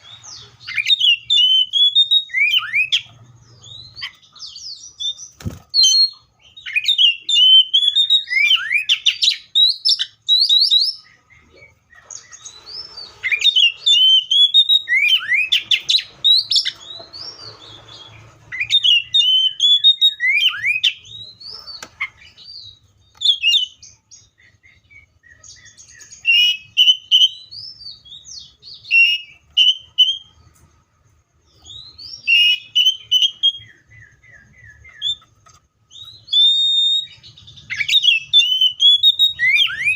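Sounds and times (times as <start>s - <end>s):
bird singing whistles and chirps: 0.0s - 30.6s, 31.4s - 39.9s.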